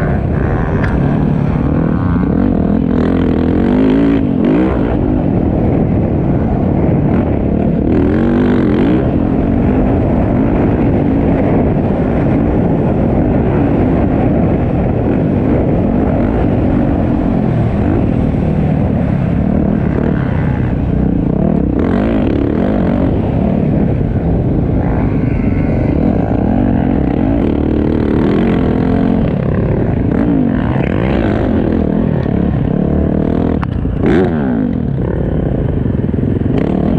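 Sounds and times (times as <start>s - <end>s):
motorbike engine revving: 0.0s - 36.9s.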